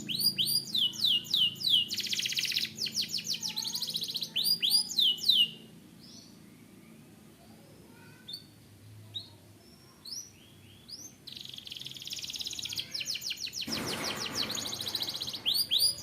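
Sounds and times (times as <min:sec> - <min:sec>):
canary singing: 0:00.0 - 0:06.4, 0:09.1 - 0:16.0.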